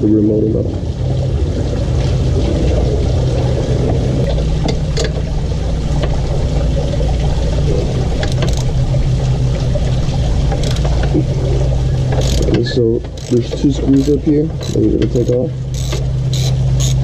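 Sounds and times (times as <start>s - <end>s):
low mechanical drone: 0.0s - 17.0s.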